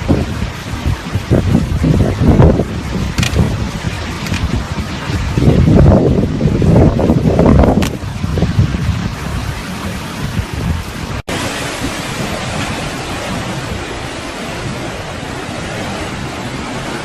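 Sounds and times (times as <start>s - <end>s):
rushing wind: 0.0s - 17.0s
surf: 0.0s - 17.0s.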